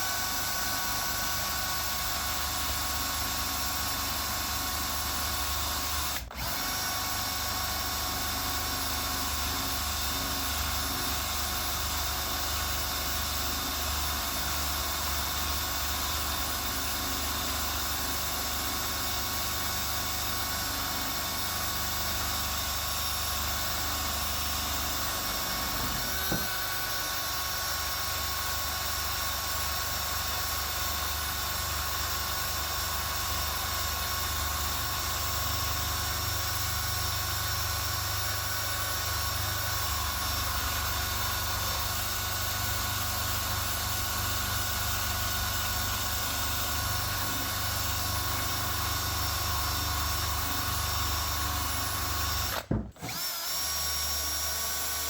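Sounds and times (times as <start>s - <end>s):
electric drill with wire wheel: 0.0s - 55.0s.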